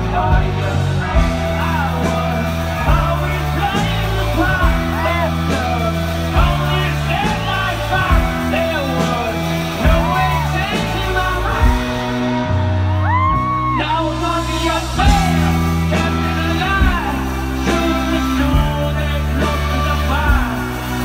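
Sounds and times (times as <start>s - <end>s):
bass notes: 0.0s - 21.0s
electric guitars: 0.0s - 21.0s
person singing: 0.0s - 21.0s
drum beat: 0.2s - 12.2s, 15.0s - 21.0s.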